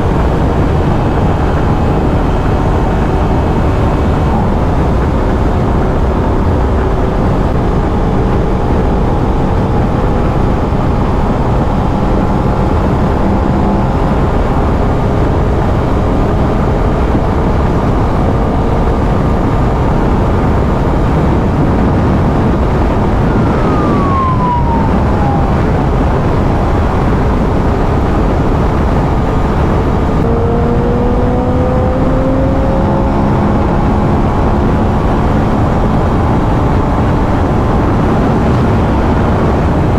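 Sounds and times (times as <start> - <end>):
motorcycle engine cruising: 0.0 - 39.9
wind rush: 0.0 - 39.9.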